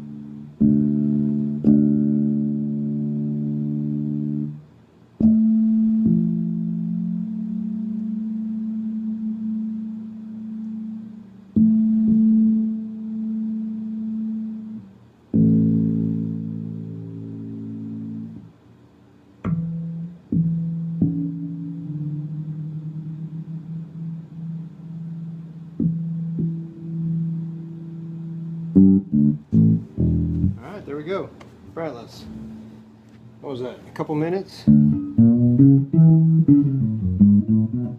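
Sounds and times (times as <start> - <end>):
fretless bass plucked: 0.0 - 4.6, 5.2 - 18.5, 19.4 - 30.8, 34.7 - 37.9.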